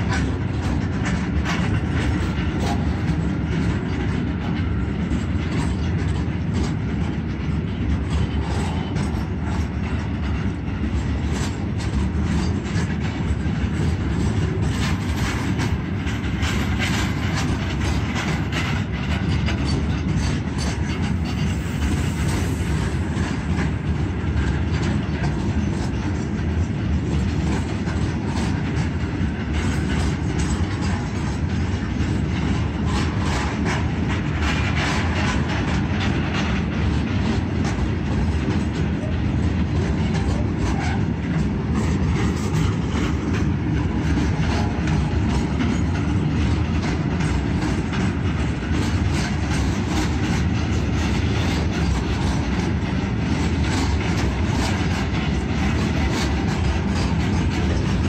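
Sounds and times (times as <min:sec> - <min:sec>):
train wheels rumbling on rails: 0:00.0 - 0:58.0
wheels clicking over rail joints: 0:00.0 - 0:58.0.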